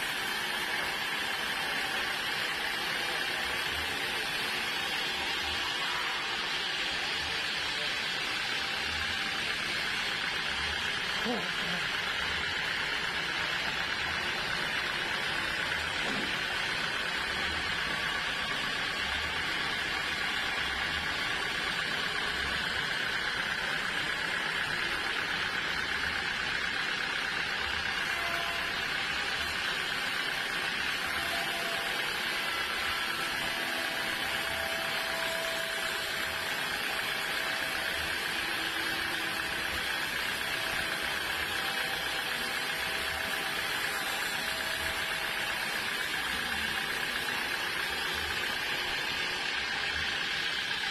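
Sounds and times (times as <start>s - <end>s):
sawmill machinery humming and whining: 0.0s - 50.9s.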